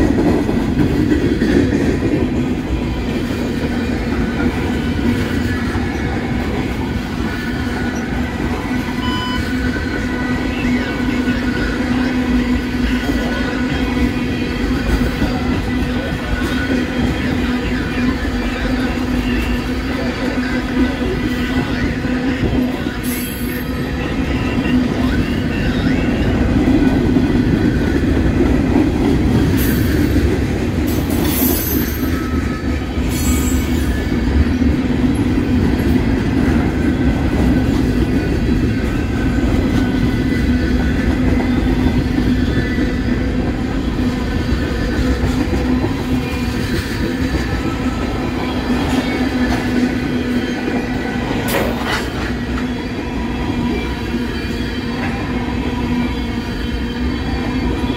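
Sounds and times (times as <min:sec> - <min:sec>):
train rolling past: 0:00.0 - 0:57.9.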